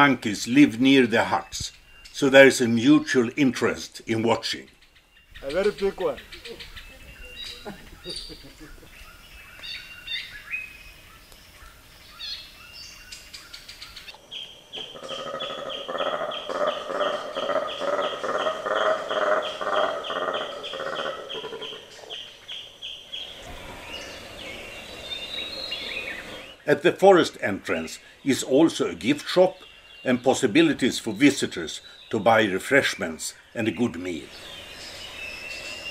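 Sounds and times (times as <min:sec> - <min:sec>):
birds calling and chirping: 0:00.0 - 0:35.9
loud repeated bird calls: 0:00.0 - 0:35.9.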